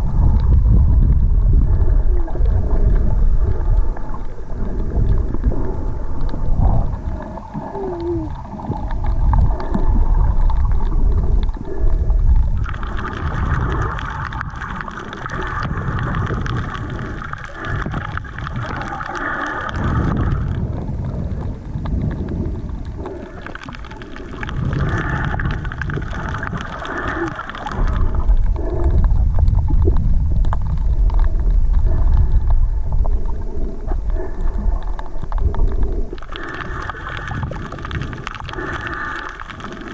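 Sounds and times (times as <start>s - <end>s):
muffled underwater water rumble: 0.0s - 39.9s.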